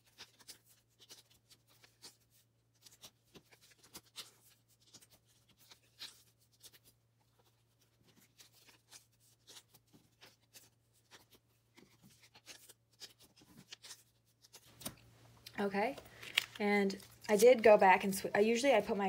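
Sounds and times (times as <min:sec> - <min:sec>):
cards sliding into plastic sleeves: 0:00.1 - 0:15.1, 0:16.0 - 0:17.2.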